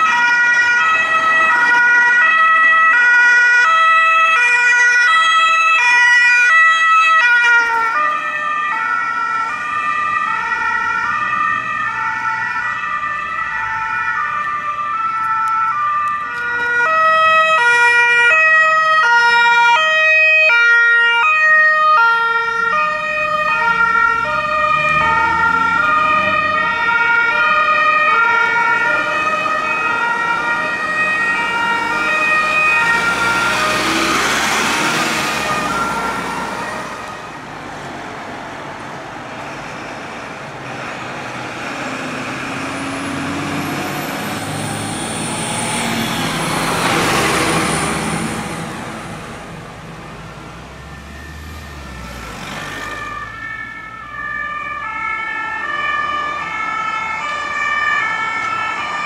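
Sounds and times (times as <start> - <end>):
two-tone emergency sirens: 0.0 - 59.0.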